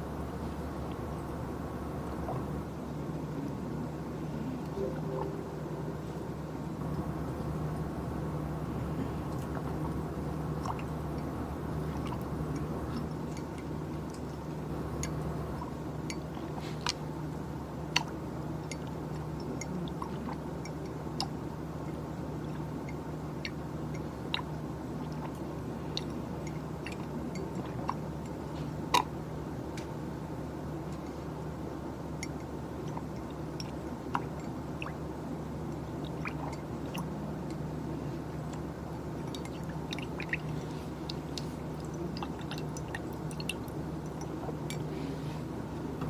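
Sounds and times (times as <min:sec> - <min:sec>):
office equipment hum: 0:00.0 - 0:46.0.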